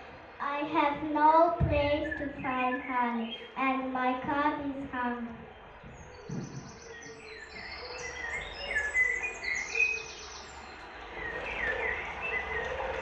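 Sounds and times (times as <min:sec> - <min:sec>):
birds chirping and trilling: 0:00.8 - 0:13.0.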